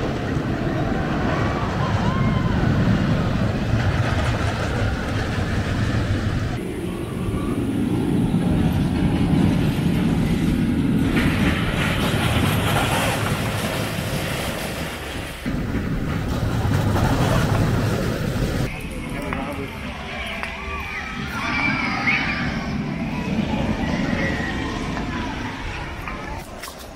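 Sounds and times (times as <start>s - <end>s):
roller coaster rumbling on track: 0.0s - 26.9s.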